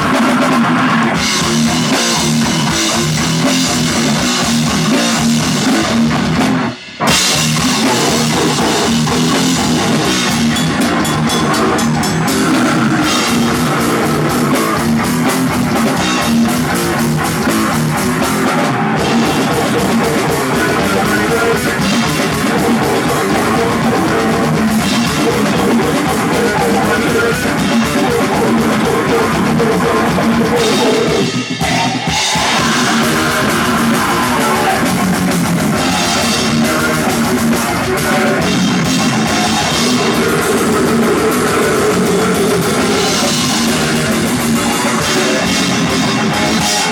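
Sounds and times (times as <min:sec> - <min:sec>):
metal band playing live: 0:00.0 - 0:46.9.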